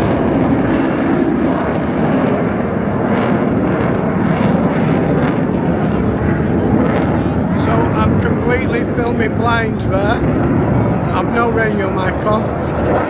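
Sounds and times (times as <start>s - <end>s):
fighter jet engines roaring: 0.0s - 13.0s.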